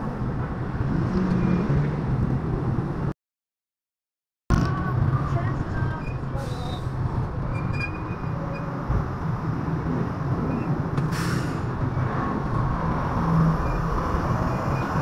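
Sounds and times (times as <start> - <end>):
road and wind noise: 0.0 - 3.2, 4.5 - 15.0.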